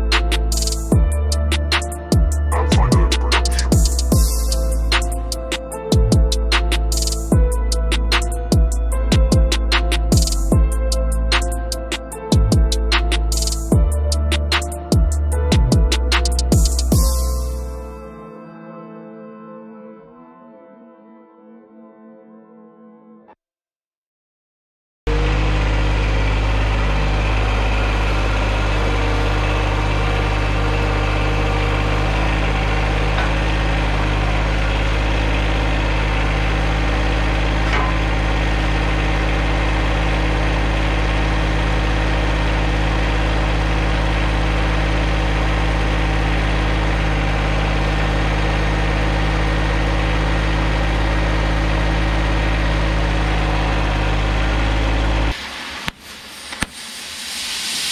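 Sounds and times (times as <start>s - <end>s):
diesel tractor engine running: 0.0s - 18.0s, 25.1s - 56.7s.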